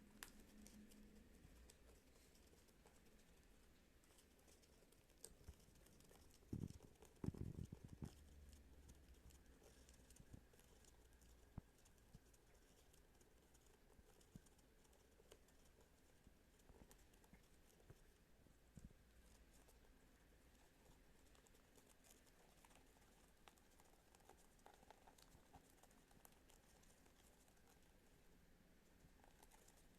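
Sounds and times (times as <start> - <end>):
beak pecking at food: 0.0 - 29.9.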